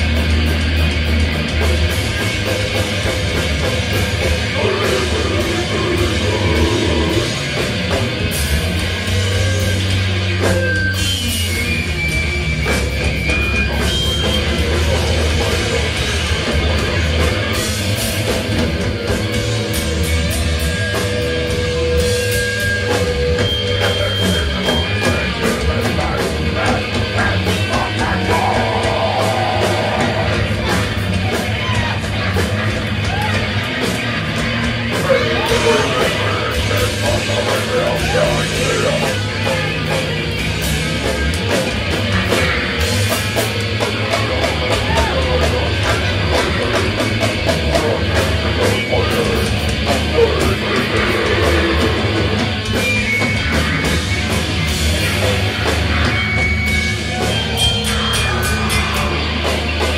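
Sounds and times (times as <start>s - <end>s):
bass: 0.0s - 59.9s
distorted electric guitars: 0.0s - 59.9s
drums: 0.0s - 59.9s.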